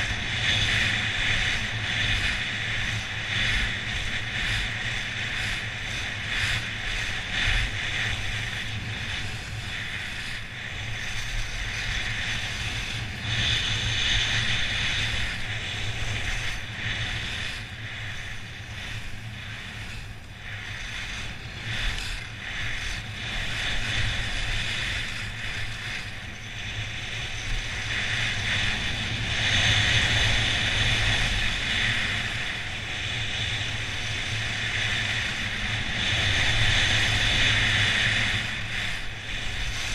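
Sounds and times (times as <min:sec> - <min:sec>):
skis scraping over packed snow: 0:00.0 - 0:39.9
wind rumbling on microphone: 0:00.0 - 0:39.9.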